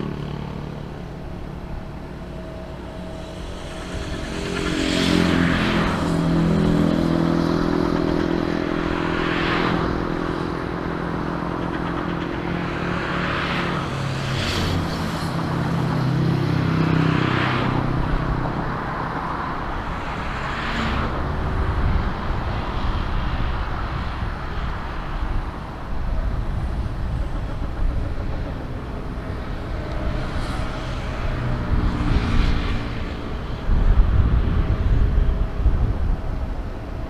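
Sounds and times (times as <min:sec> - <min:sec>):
traffic rumble: 0:00.0 - 0:37.0
vehicles passing whooshes: 0:00.0 - 0:37.0.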